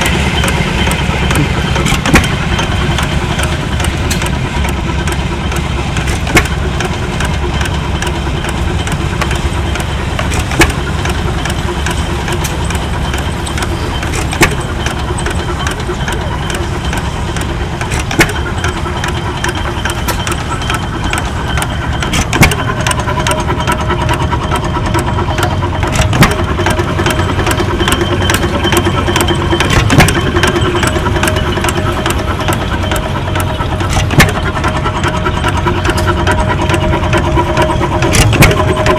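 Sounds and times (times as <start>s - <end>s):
engine flywheel clicking: 0.0s - 38.9s.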